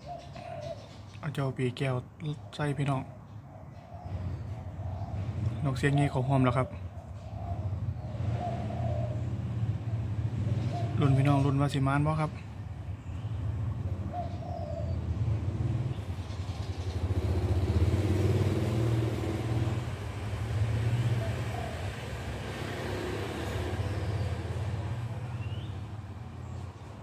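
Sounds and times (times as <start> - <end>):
dove cooing: 0.0 - 1.2, 2.2 - 12.2, 13.7 - 26.6
low rumble of road traffic: 0.0 - 27.0
small birds chirping: 0.0 - 27.0.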